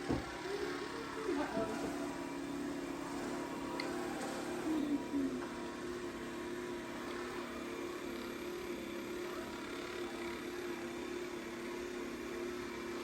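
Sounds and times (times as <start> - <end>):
robot vacuum humming: 0.0 - 13.0.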